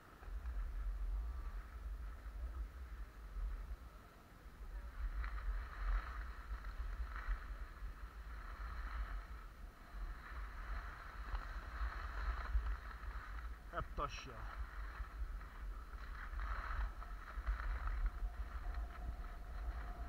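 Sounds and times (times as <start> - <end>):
skis scraping over snow: 0.0 - 20.0
wind rumbling on microphone: 0.0 - 20.0.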